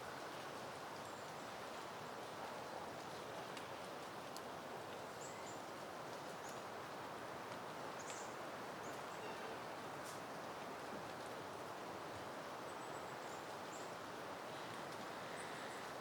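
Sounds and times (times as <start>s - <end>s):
wind rustling through plants: 0.0s - 16.0s.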